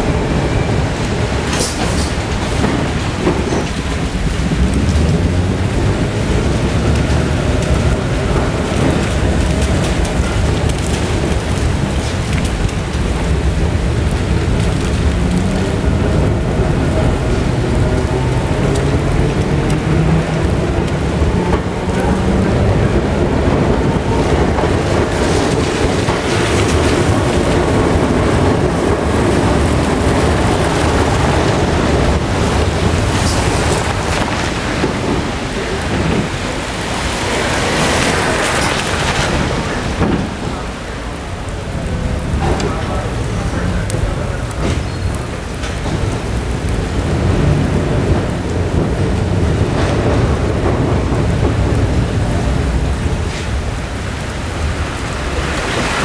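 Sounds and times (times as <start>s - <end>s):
rain: 0.0s - 56.0s
tram rumbling on track: 0.0s - 56.0s.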